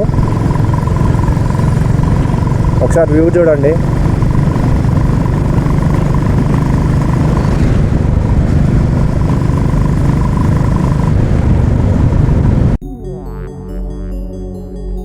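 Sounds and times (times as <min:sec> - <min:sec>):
motorcycle engine running: 0:00.0 - 0:12.8
wind and road noise: 0:00.0 - 0:12.8.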